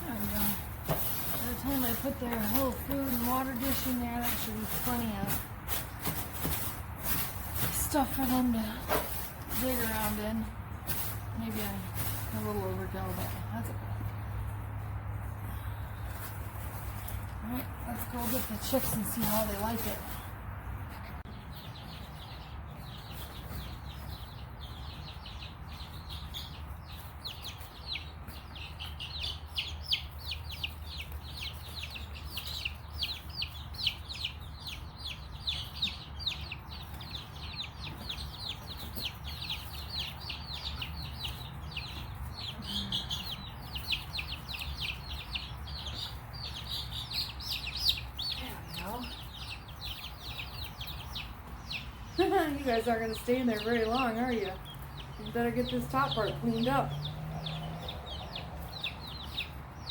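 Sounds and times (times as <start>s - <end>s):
baby chicks peeping: 0.0s - 59.9s.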